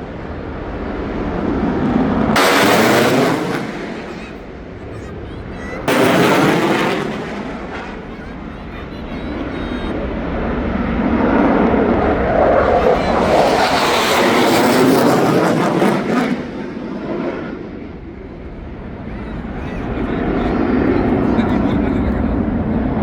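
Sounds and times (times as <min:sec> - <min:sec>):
fighter jet roaring past: 0:00.0 - 0:23.0.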